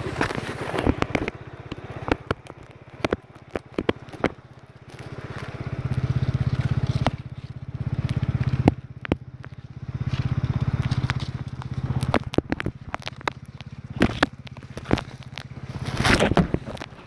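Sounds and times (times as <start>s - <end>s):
leaves and twigs crackling: 0.0s - 17.0s
low pulsing hum: 0.0s - 17.0s
sharp clicks: 0.2s - 17.0s.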